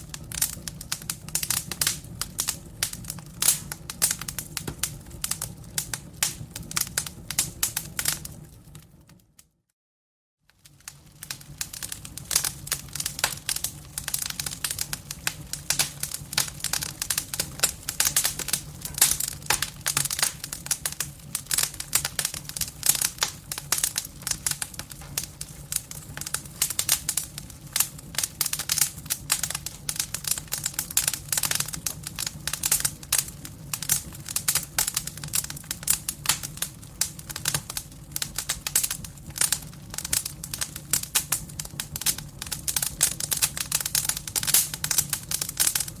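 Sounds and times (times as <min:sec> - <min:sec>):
firewood crackling: 0:00.0 - 0:09.4, 0:10.5 - 0:46.0.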